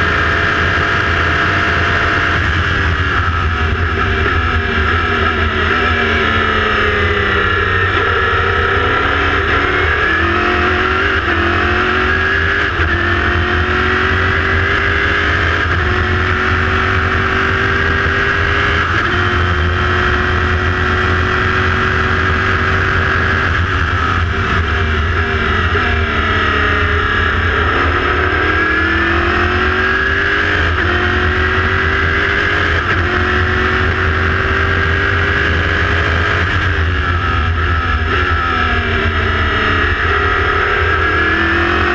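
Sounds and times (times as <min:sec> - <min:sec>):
race car engine accelerating: 0:00.0 - 0:41.9.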